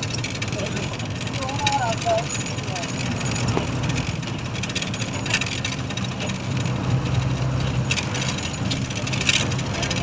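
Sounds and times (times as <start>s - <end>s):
road and wind noise: 0.0s - 10.0s
vehicle engine running: 0.0s - 10.0s.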